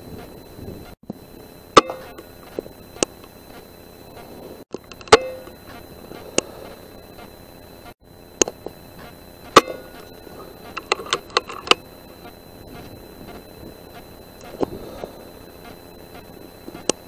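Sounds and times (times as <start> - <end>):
high thin whine: 0.0 - 17.0.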